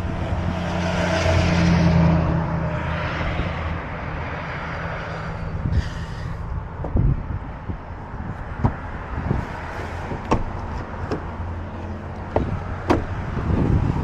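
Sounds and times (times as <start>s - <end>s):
low engine hum: 0.0s - 14.0s
rushing noise of passing vehicle: 0.0s - 14.0s.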